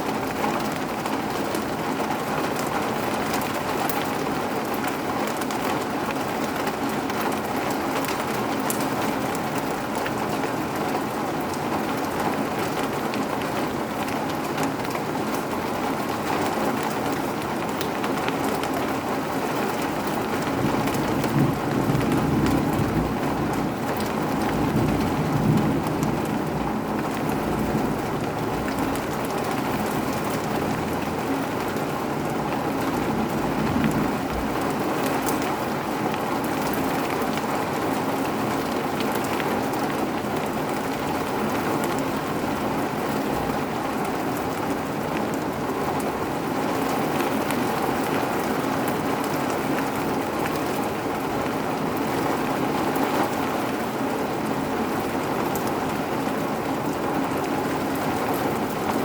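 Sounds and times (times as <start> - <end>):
rain pattering on surfaces: 0.0 - 59.0.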